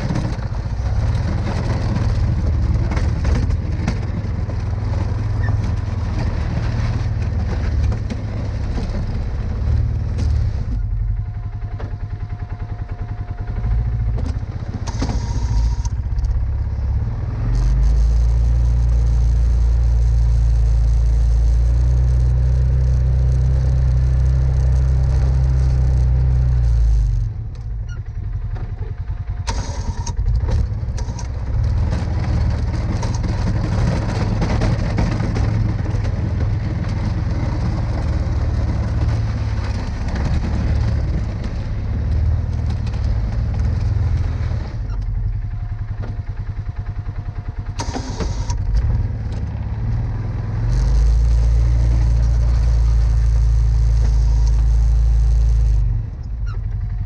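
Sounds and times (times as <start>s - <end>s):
atv engine running: 0.0s - 57.0s
plow blade pushing snow: 0.0s - 57.0s.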